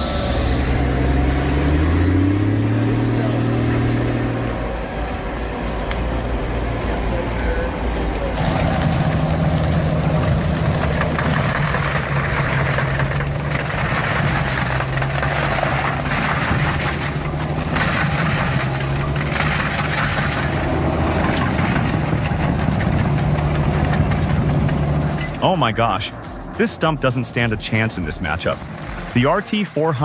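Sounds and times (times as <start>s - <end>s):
heavy machine engine running: 0.0s - 29.6s
harsh mechanical noise: 0.0s - 30.0s.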